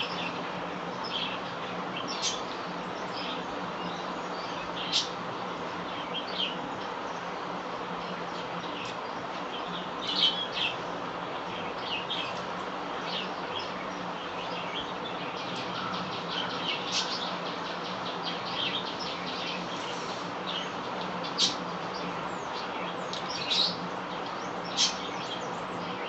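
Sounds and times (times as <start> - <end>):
small birds chirping: 0.0 - 26.0
steady background hiss: 0.0 - 26.0.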